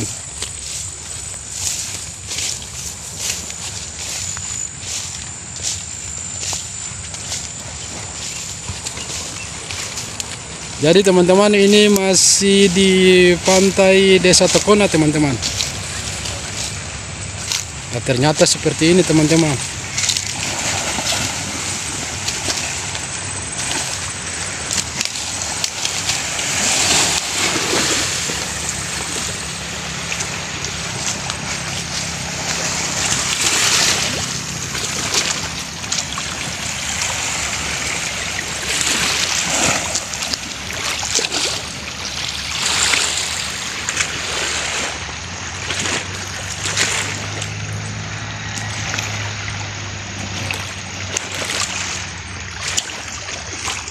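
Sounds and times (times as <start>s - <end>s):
waves washing onto a pebble beach: 7.9s - 53.9s.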